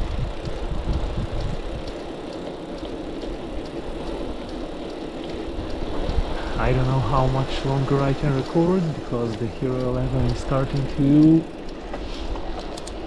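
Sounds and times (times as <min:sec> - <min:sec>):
bicycle tyre rumble on asphalt: 0:00.0 - 0:13.0
wind buffeting microphone: 0:00.0 - 0:13.0
faint light ticks: 0:00.1 - 0:13.0.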